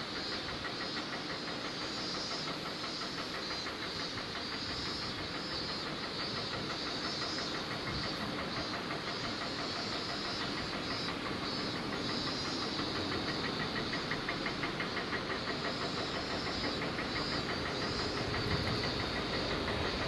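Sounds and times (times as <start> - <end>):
fast even ticking: 0.1 - 20.0.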